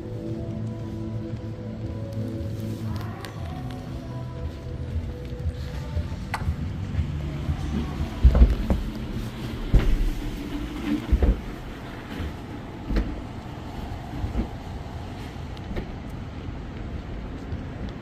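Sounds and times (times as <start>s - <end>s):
low rumble of passing vehicles: 0.0s - 18.0s.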